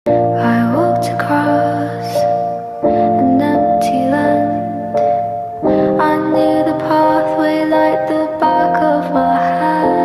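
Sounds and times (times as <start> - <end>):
music with sustained chords: 0.1 - 10.0.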